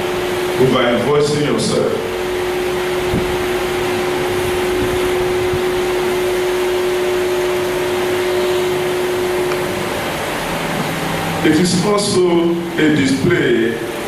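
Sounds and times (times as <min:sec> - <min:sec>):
loud rushing noise: 0:00.0 - 0:14.0
steady hum tone: 0:00.0 - 0:14.0.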